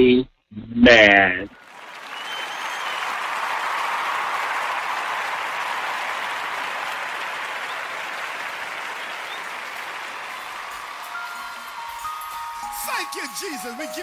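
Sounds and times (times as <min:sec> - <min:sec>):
crowd applauding: 0:01.5 - 0:14.0.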